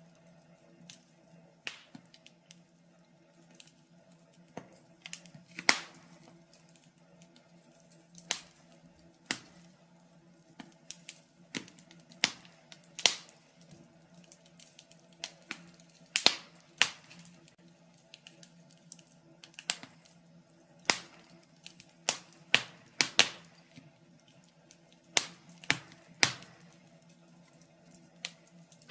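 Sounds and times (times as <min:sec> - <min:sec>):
faint steady hum: 0:00.0 - 0:28.9
wood fire crackling and popping: 0:00.0 - 0:28.9.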